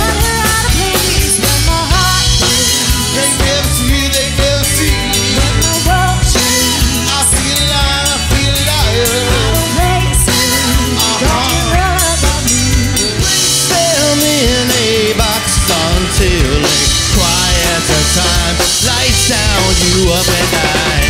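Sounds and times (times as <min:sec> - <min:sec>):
drum kit beat: 0:00.0 - 0:21.0
live pop-rock band playing: 0:00.0 - 0:21.0
sliding lead melody: 0:00.0 - 0:21.0.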